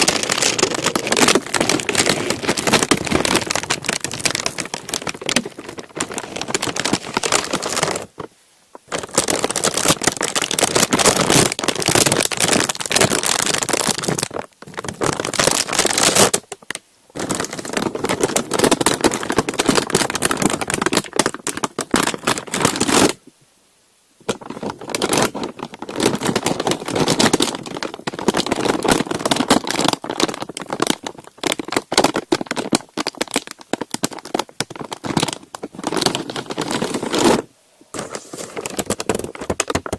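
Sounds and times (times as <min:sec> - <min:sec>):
paper crumpling and crinkling: 0:00.0 - 0:23.2, 0:24.3 - 0:39.9.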